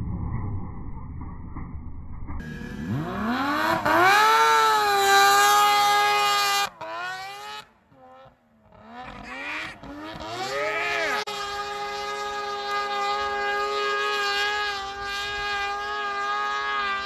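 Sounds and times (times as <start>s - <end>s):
snowmobile engine revving: 2.4s - 17.0s.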